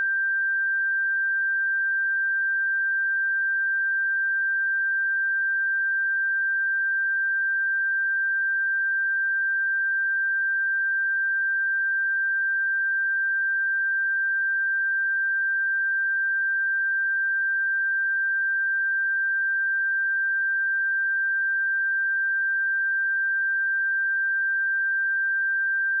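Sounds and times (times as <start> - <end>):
sine wave test tone: 0.0 - 26.0.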